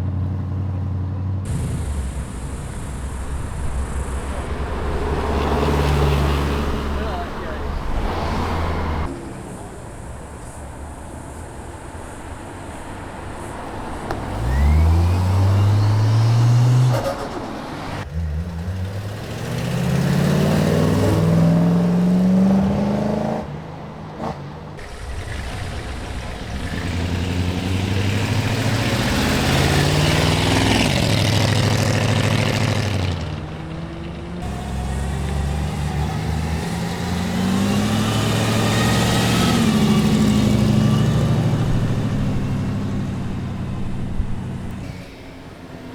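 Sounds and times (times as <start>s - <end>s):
cars accelerating past: 0.0s - 45.9s.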